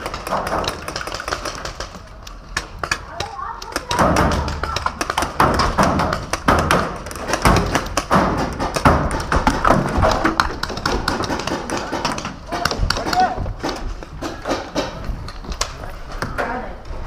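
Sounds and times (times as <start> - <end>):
paintball markers firing: 0.0 - 16.3.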